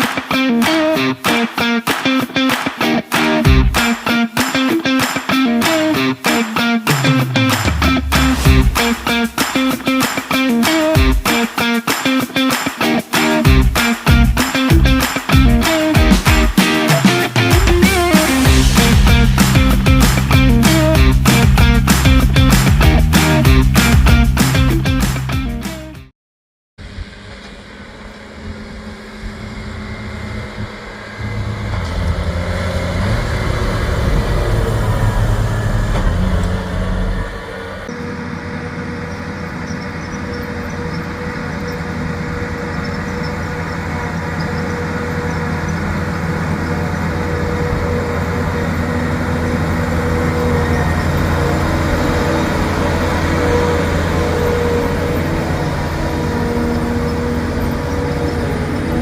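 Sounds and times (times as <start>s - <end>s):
heavy vehicle engine running: 6.9s - 11.3s, 13.4s - 25.8s, 26.8s - 59.0s.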